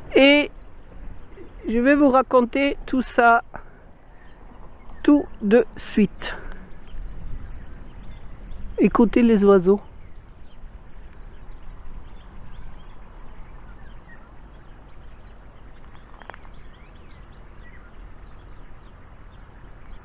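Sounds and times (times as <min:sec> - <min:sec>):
distant road traffic hum: 0:00.0 - 0:20.0
small birds chirping: 0:00.0 - 0:20.0.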